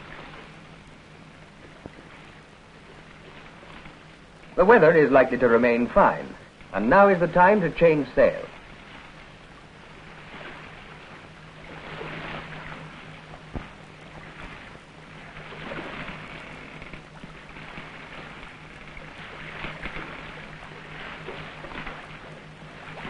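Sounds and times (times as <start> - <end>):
sea waves surging: 0.0 - 23.0
steady low hum: 0.0 - 23.0
wind: 0.0 - 23.0.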